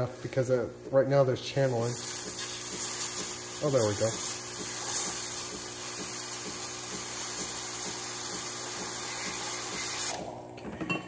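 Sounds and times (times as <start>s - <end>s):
espresso machine pump humming: 1.6s - 11.0s.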